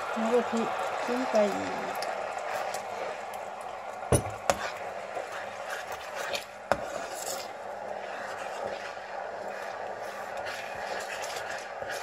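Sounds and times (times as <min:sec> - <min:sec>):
ladle stirring sauce in a pan: 0:00.0 - 0:12.0.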